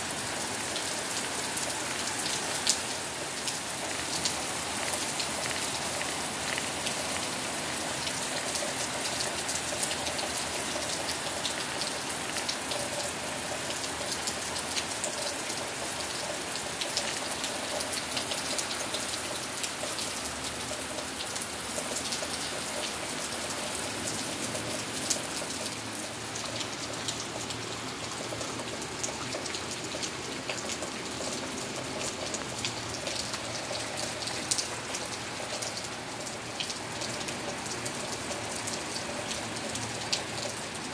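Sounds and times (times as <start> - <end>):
heavy rain falling: 0.0 - 40.9
raindrops ticking close by: 0.2 - 40.9.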